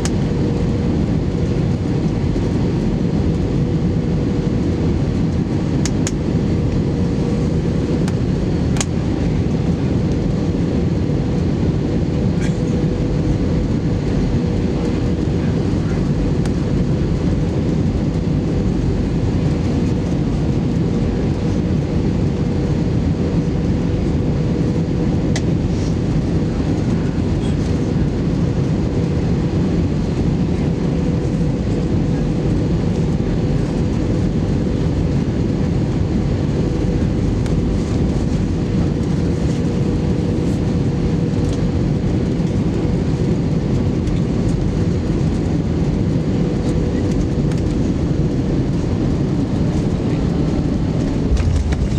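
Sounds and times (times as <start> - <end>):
airplane cabin engine rush: 0.0 - 51.9.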